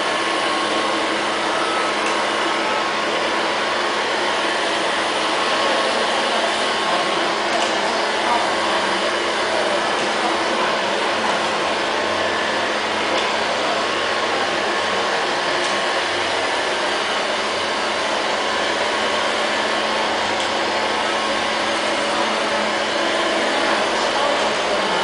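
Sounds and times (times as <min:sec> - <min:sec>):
robot vacuum whirring: 0:00.0 - 0:25.0.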